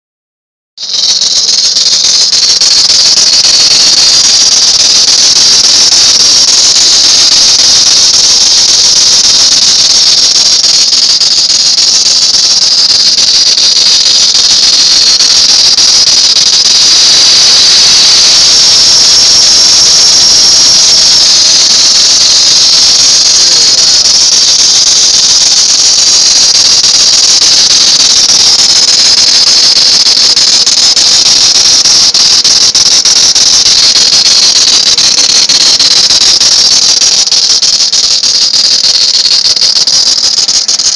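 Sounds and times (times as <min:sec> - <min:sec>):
high-pitched belt squeal: 0:00.8 - 0:40.9.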